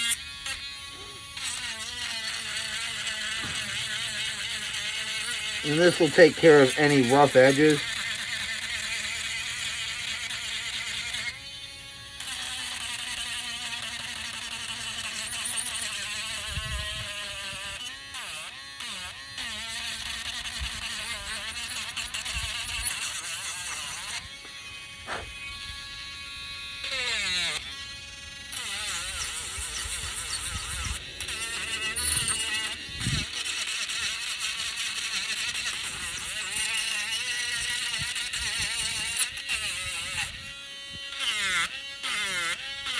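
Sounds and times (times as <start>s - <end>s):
electric sander buzzing whine: 0.0s - 42.9s.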